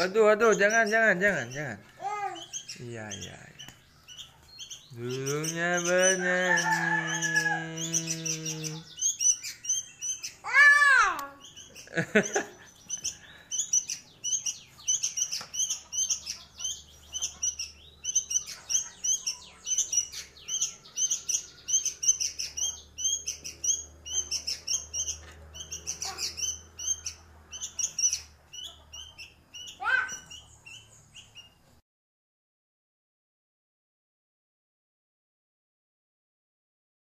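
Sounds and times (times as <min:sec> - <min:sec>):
young bird chirping: 0:00.0 - 0:31.8.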